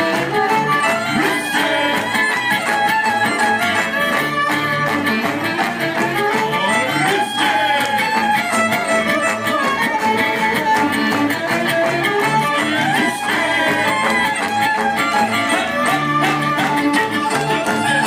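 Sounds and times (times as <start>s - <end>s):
bass: 0.0s - 18.0s
strummed acoustic guitar: 0.0s - 18.0s
violin melody: 0.0s - 18.0s.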